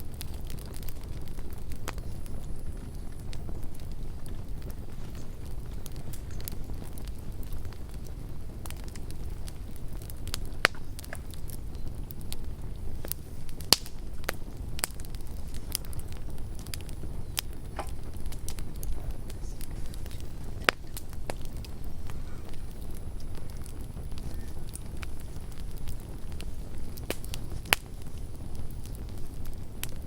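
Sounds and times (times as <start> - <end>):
campfire crackling and popping: 0.0 - 30.0
low rumble of flames: 0.0 - 30.0.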